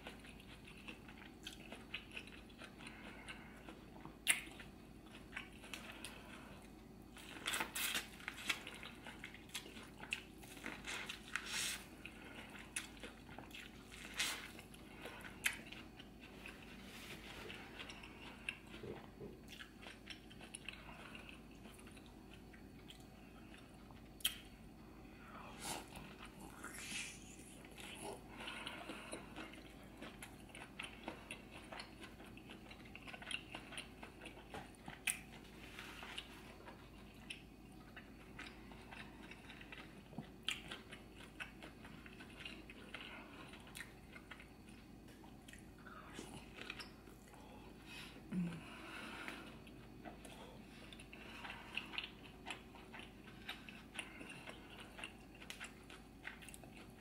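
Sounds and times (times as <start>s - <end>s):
chewing and wet smacking: 0.0s - 24.6s, 25.8s - 57.0s.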